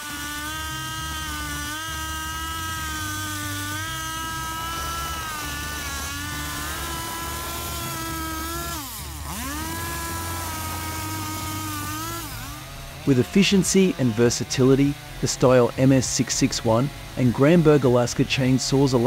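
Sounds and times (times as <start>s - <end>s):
chainsaw running at high revs: 0.0s - 19.0s.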